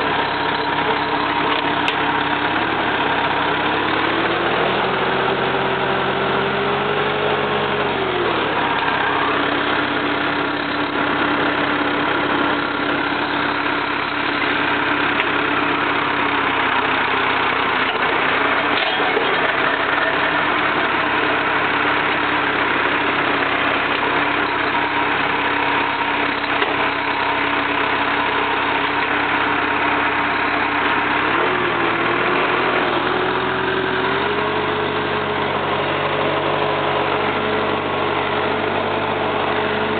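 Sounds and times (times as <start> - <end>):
mower diesel engine running: 0.0 - 39.9.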